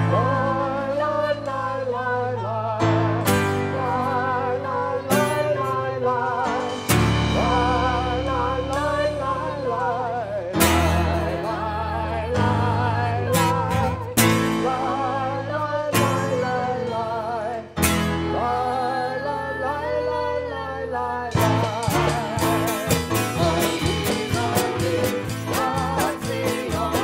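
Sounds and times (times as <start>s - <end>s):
strummed acoustic guitar: 0.0s - 18.7s, 21.3s - 27.0s
person singing with vibrato: 0.0s - 27.0s.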